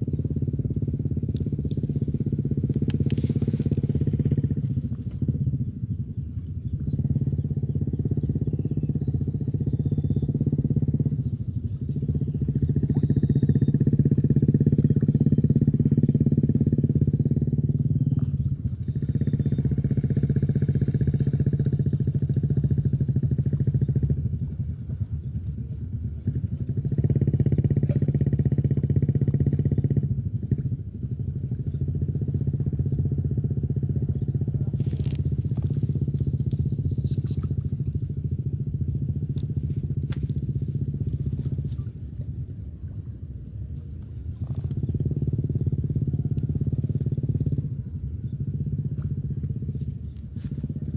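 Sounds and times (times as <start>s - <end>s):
engine running with rough drone: 0.0s - 50.9s.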